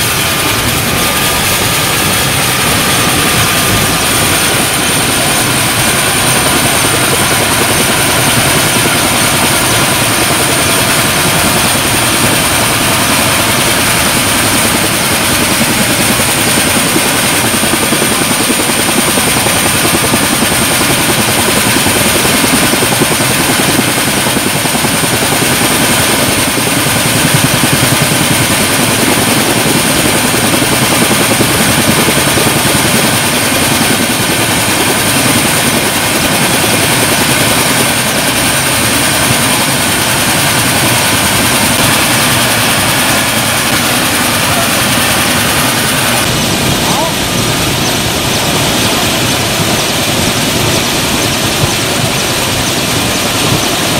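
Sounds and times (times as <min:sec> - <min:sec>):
helicopter turbine engine whining: 0:00.0 - 0:53.9.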